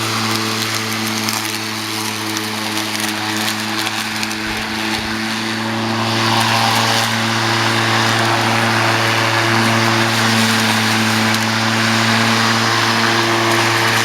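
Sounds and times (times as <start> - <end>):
electric lawn mower running: 0.0 - 14.0
grass being cut: 0.0 - 14.0.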